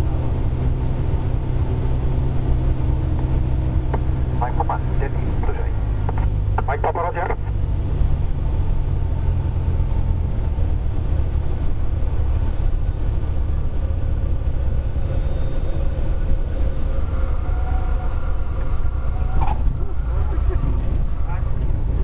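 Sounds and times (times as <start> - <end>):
airplane engine and propeller rumble: 0.0 - 22.0.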